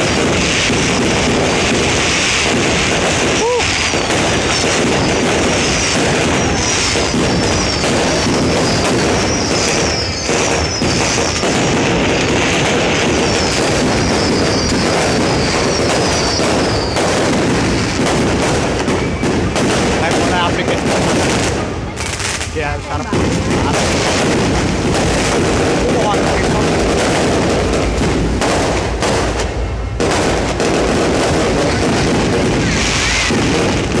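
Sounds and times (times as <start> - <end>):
falling whistle of fireworks: 0.0 - 34.0
fireworks bangs and crackles: 0.0 - 34.0.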